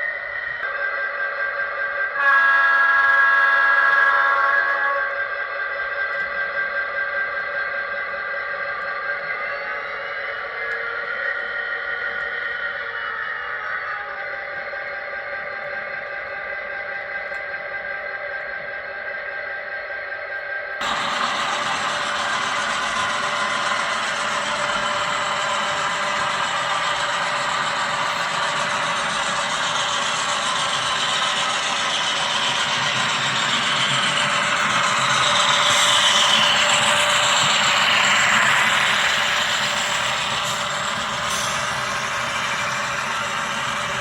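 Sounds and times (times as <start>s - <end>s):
model train whirring on track: 0.0s - 44.0s.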